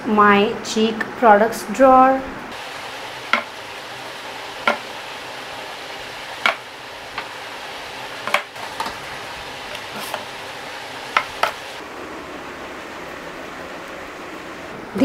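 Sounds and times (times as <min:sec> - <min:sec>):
background hiss: 0:02.3 - 0:15.0.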